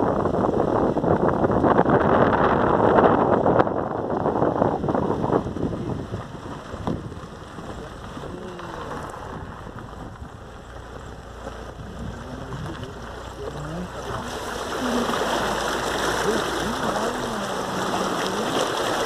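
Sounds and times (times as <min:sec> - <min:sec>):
wind blowing across microphone: 0:00.0 - 0:19.0.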